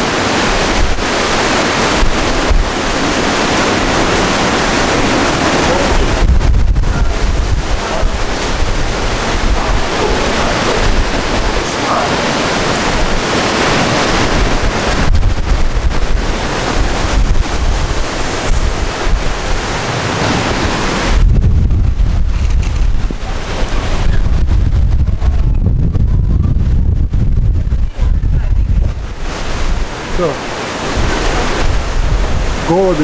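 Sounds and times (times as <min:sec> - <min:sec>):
gusting wind through trees: 0:00.0 - 0:33.0
wind buffeting microphone: 0:00.0 - 0:33.0.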